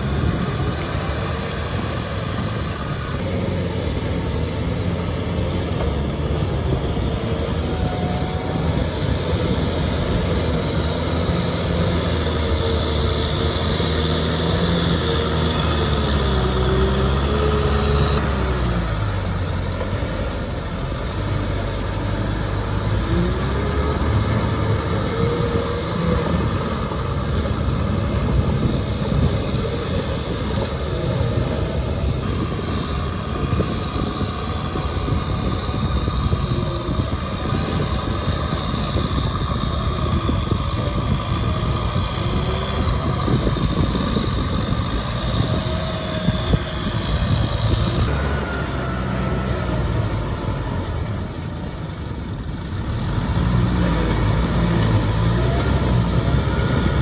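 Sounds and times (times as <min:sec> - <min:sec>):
rotary tiller churning mud: 0:00.0 - 0:57.0
tractor diesel engine under load: 0:00.0 - 0:57.0.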